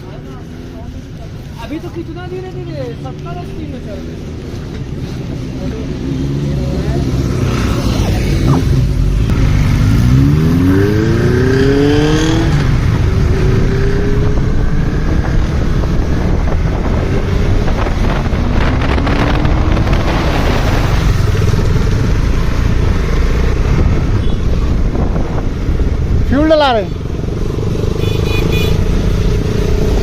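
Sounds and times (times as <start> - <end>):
wind rush on microphone: 3.9 - 30.0
motorcycle engine pulling hard: 4.9 - 30.0.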